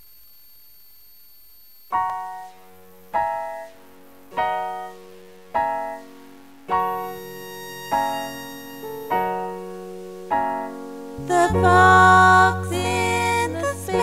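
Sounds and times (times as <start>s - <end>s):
piano chords ringing: 1.9s - 14.0s.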